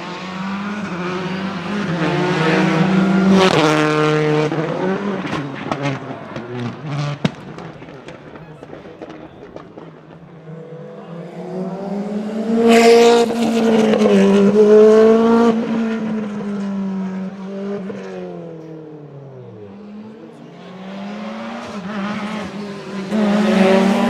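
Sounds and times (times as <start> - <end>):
another rally car engine: 0.0 - 24.0
rally car engine passing: 0.0 - 24.0.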